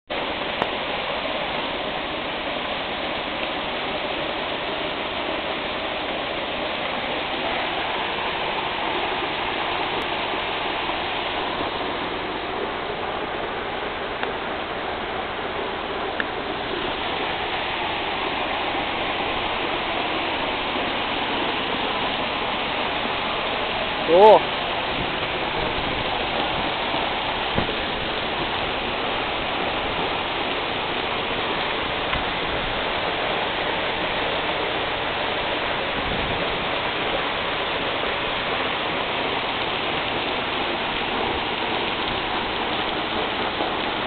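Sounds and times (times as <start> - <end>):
waterfall rushing onto rock: 0.1 - 44.0.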